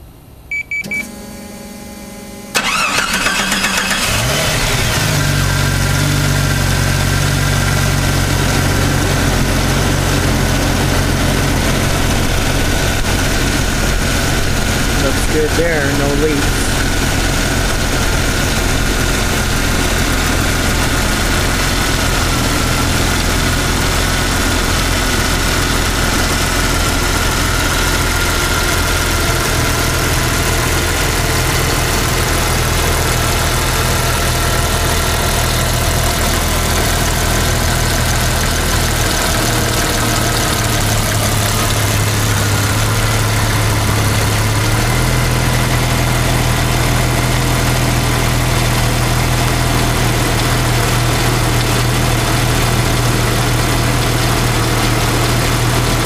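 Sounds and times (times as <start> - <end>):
car engine idling: 1.2 - 56.0.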